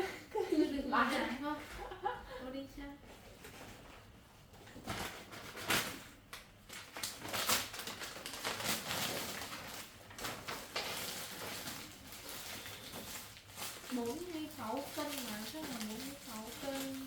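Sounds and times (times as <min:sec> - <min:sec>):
packages rustling and knocking: 0:03.2 - 0:17.0.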